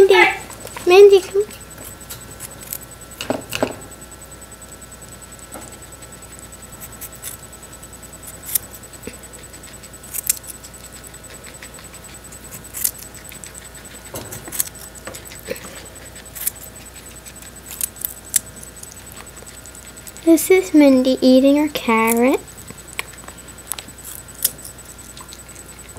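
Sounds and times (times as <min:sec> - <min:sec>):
guinea pig crunching carrot: 0:00.0 - 0:25.9.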